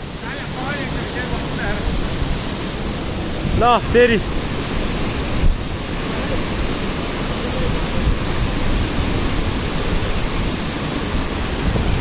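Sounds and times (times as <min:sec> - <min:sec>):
river white water rushing: 0:00.0 - 0:12.0.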